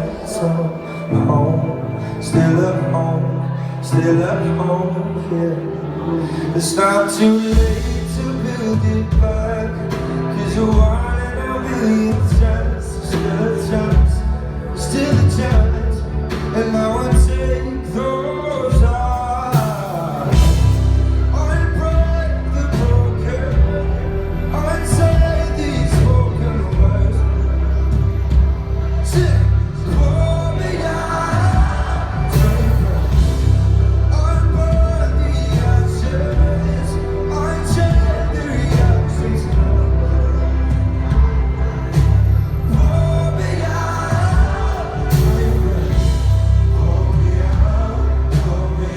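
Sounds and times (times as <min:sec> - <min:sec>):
person singing: 0:00.0 - 0:48.9
rock band playing: 0:00.0 - 0:48.9.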